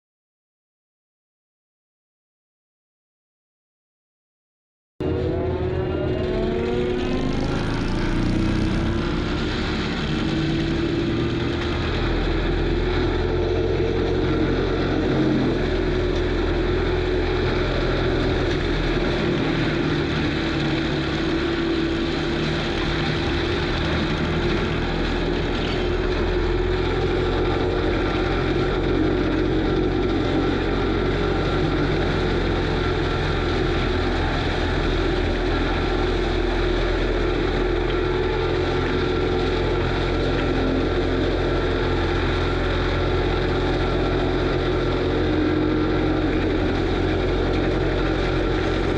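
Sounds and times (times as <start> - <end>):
diesel machine engine droning: 5.0 - 48.9.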